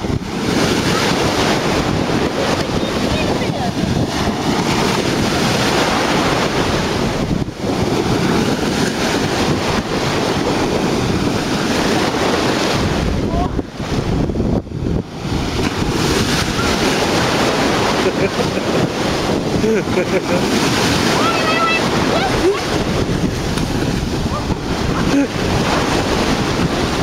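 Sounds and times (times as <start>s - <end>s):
sea surf washing ashore: 0.0s - 27.0s
wind gusting on microphone: 0.0s - 27.0s.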